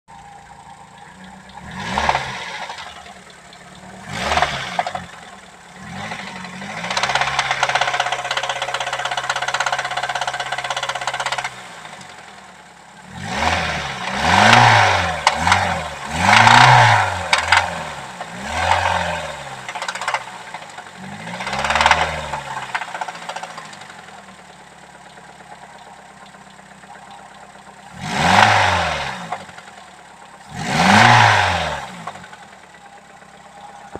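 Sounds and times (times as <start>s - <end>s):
car engine revving with knocking: 0.1s - 33.9s.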